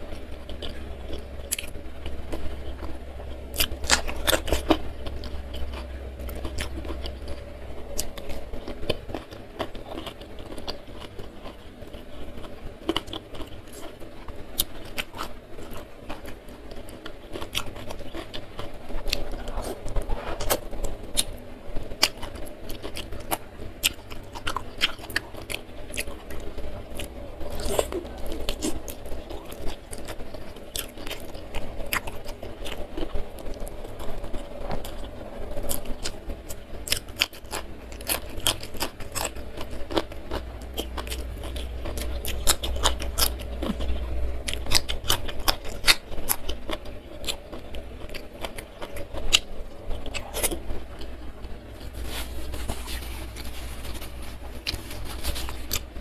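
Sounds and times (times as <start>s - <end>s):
chewing fried chicken: 0.0s - 56.0s.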